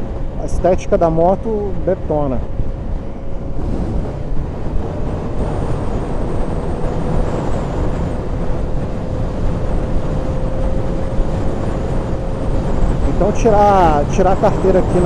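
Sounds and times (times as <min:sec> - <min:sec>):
wind rush over microphone: 0:00.0 - 0:15.0.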